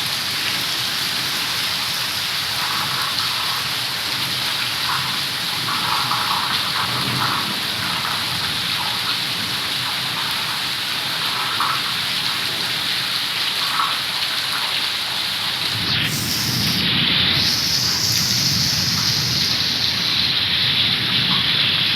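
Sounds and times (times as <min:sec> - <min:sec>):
heavy rain: 0:00.0 - 0:21.9
rain splashes: 0:00.0 - 0:21.9.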